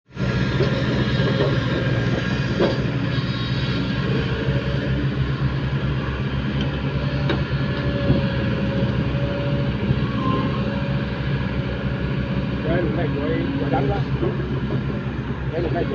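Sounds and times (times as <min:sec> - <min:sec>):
diesel engine running: 0:00.1 - 0:15.9.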